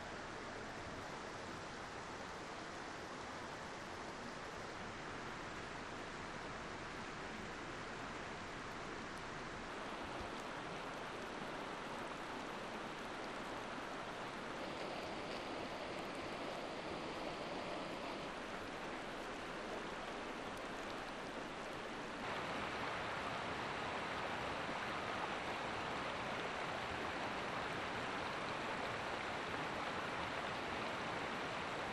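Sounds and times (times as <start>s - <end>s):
river rushing over rocks: 0.1s - 31.9s.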